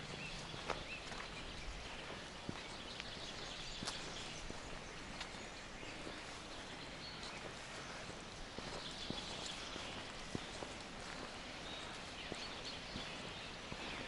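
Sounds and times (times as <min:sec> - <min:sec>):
faint birdsong: 0:00.0 - 0:14.0
soft footsteps on forest path: 0:00.0 - 0:14.0.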